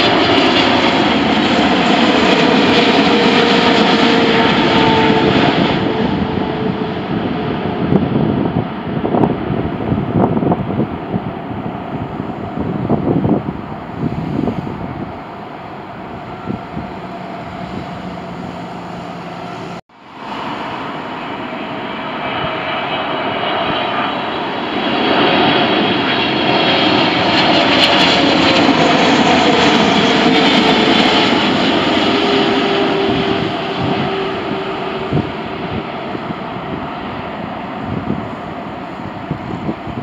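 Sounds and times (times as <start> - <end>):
jet and wind noise: 0.0 - 40.0
jet engines passing close: 0.0 - 40.0.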